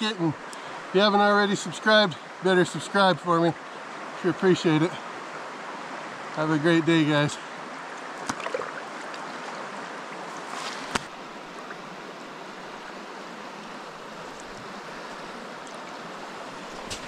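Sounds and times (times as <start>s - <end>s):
river water running over rocks: 0.0s - 17.0s.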